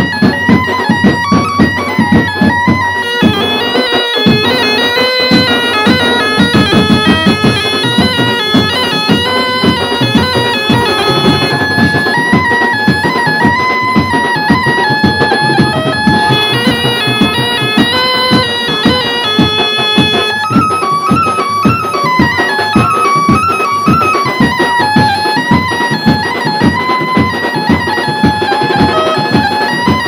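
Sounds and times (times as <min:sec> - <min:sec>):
reedy wind instrument melody: 0:00.0 - 0:30.0
steady drum beat: 0:00.0 - 0:30.0.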